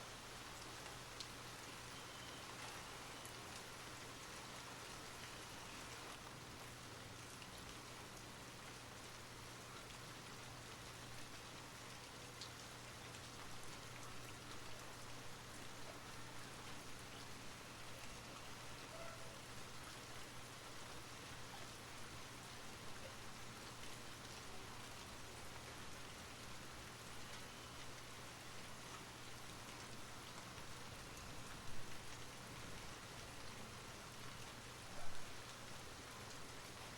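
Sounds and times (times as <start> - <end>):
soft rain falling: 0.0 - 36.9.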